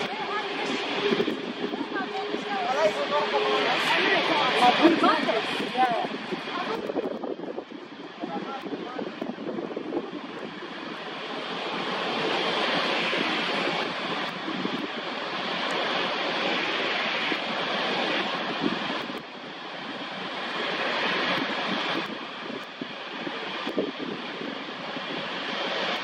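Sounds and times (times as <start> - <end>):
jet airliner engines rushing: 0.0 - 26.0.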